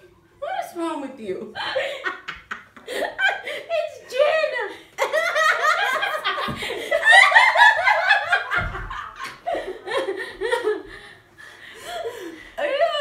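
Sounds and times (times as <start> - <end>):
women laughing hard: 1.6 - 4.0, 4.9 - 13.0.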